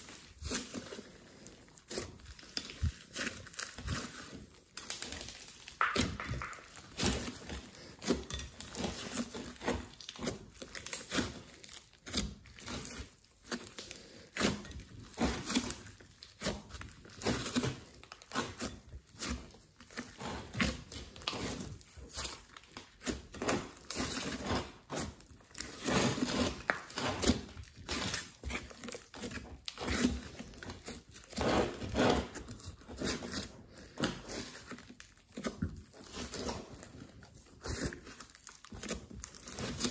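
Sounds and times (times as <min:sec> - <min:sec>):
sticky slime squishing: 0:00.0 - 0:39.9.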